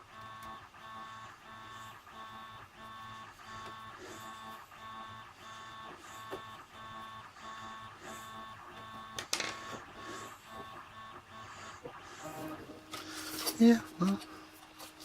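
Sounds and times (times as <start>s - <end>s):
stepper motors whining: 0.4s - 15.0s.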